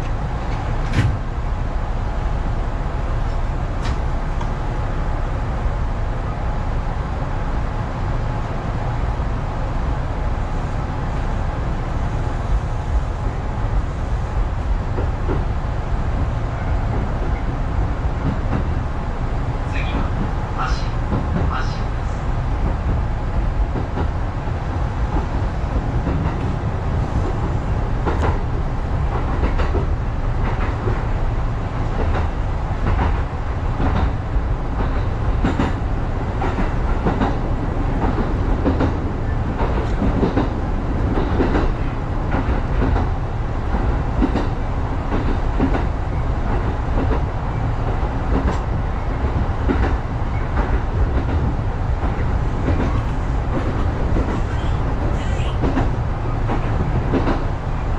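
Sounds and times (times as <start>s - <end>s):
train rumbling along track: 0.0s - 57.9s.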